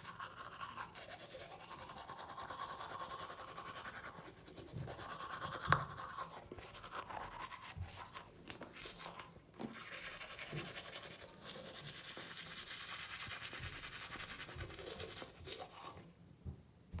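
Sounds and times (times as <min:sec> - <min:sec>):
toothbrush scrubbing teeth: 0:00.0 - 0:16.1.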